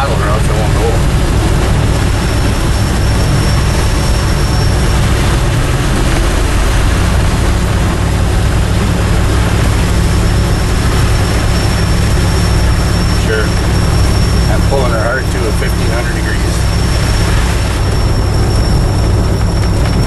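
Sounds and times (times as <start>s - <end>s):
road and wind noise: 0.0s - 20.0s
truck engine running: 0.0s - 20.0s.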